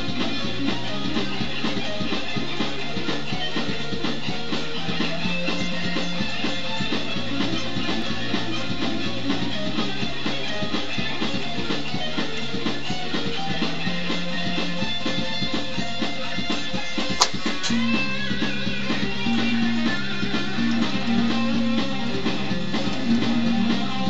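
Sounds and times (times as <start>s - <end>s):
drums and bass backing track: 0.0s - 24.0s
electric guitar rock lead: 0.0s - 24.0s.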